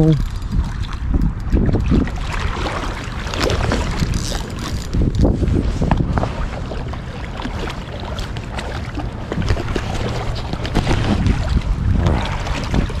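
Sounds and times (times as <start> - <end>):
wind buffeting microphone: 0.0 - 13.0
fish splashing in water: 0.5 - 5.1, 6.0 - 13.0.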